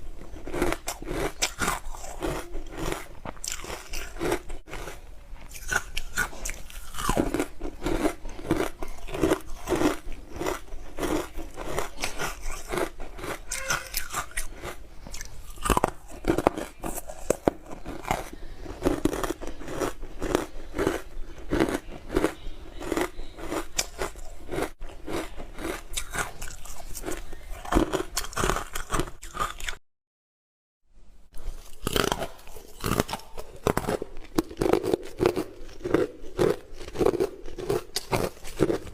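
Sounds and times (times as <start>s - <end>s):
chewing crunchy ice: 0.1s - 29.8s, 31.4s - 38.9s.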